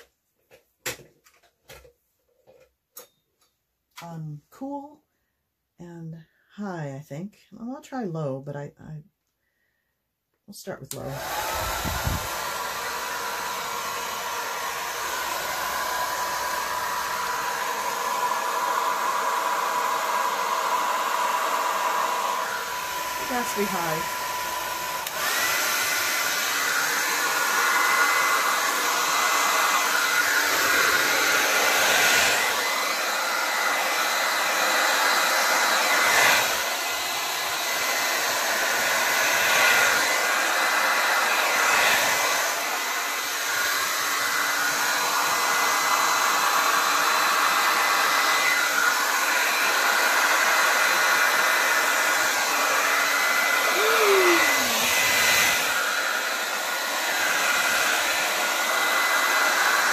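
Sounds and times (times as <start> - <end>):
hair dryer blowing: 10.7 - 59.9.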